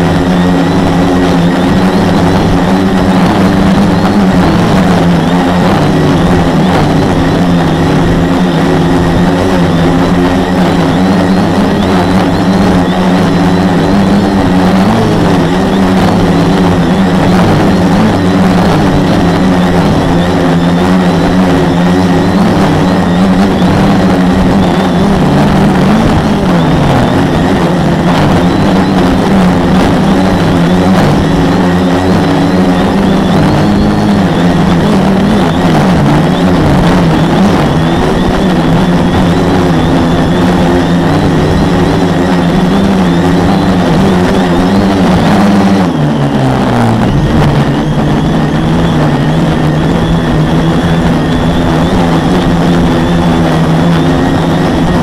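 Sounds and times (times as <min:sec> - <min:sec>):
quadcopter motors buzzing: 0:00.0 - 0:55.0.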